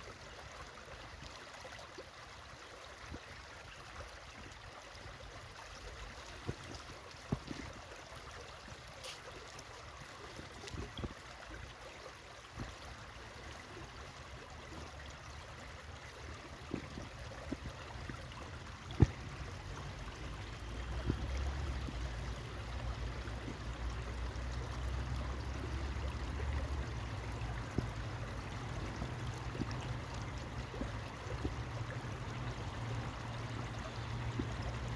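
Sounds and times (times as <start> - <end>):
stream water trickling: 0.0 - 34.9.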